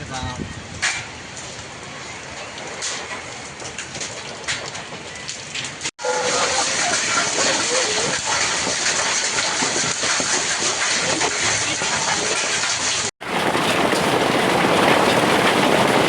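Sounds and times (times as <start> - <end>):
heavy rain pouring: 1.1 - 16.0.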